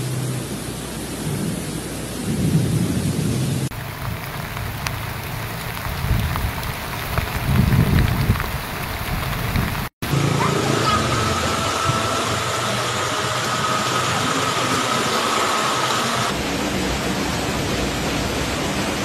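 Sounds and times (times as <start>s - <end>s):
heavy rain pouring: 0.0s - 19.0s
low rumbling swells: 0.0s - 19.0s.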